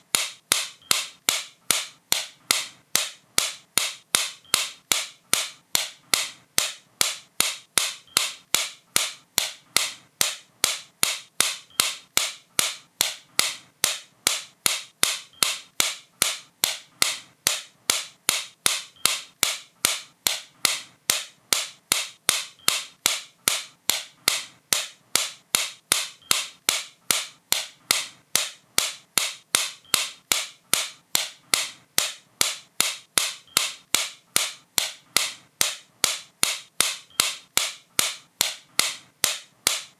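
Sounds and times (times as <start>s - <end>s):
sharp repeated click: 0.0s - 39.9s.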